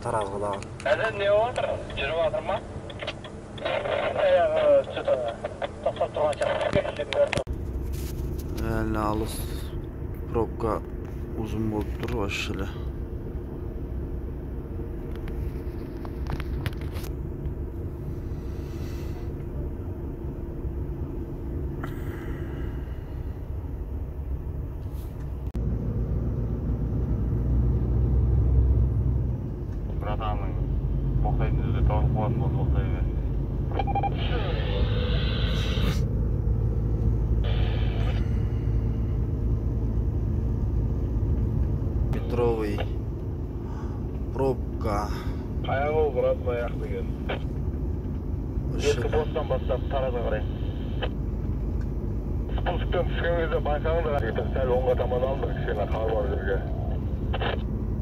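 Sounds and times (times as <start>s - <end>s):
diesel engine idling: 7.1s - 58.0s.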